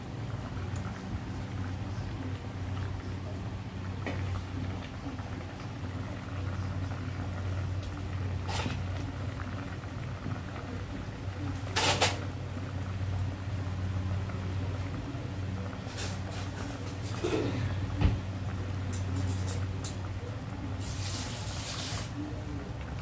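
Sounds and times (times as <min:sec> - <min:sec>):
soup bubbling in a pot: 0:00.0 - 0:23.0.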